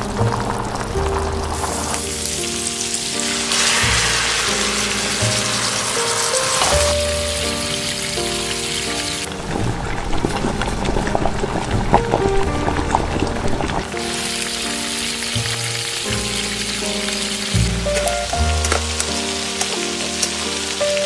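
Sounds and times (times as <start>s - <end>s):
soft background music: 0.0s - 21.0s
food sizzling in oil: 1.1s - 21.0s.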